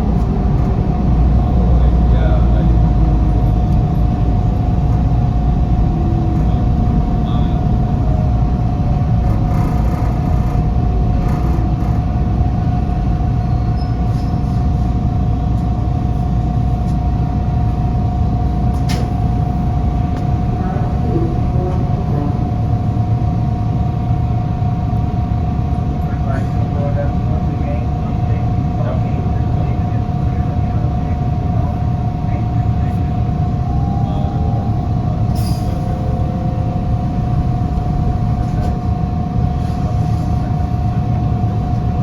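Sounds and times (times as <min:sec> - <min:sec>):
constant hum: 0:00.0 - 0:42.0
subway train rumble: 0:00.0 - 0:42.0.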